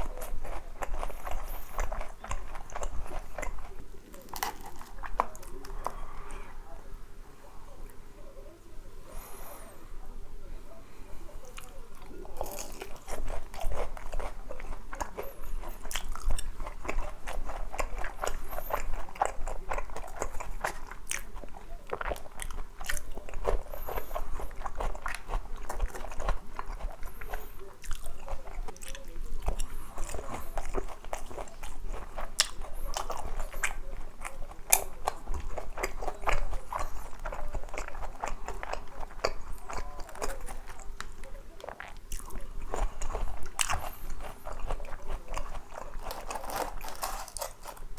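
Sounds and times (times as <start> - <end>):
person chewing crispy chicken: 0.0 - 6.6, 11.4 - 47.9.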